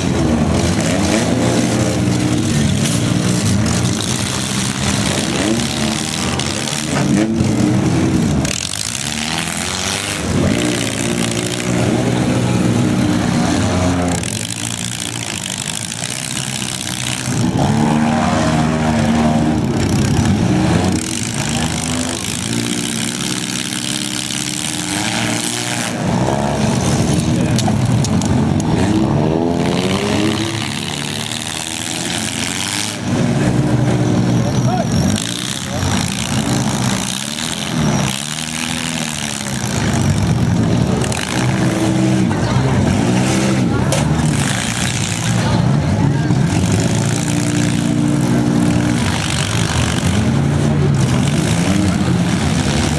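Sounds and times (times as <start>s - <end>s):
car engines revving: 0.0s - 52.9s
cars ramming each other: 0.0s - 52.9s.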